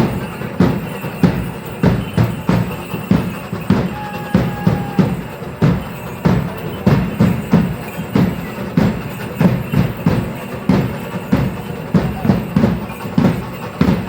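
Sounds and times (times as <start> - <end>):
drums beating dance rhythm: 0.0 - 14.0.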